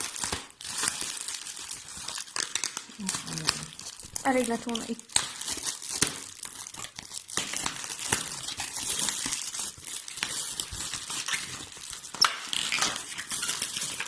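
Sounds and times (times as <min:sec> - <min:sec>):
packing material crinkling: 0:00.0 - 0:14.0.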